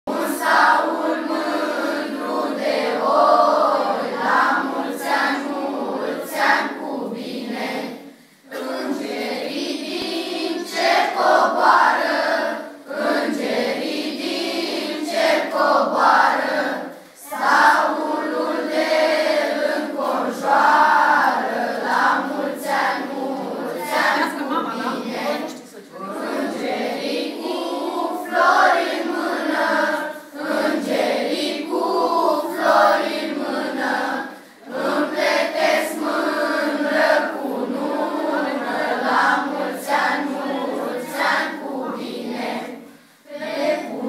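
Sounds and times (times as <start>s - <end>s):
group of voices singing: 0.1s - 44.0s.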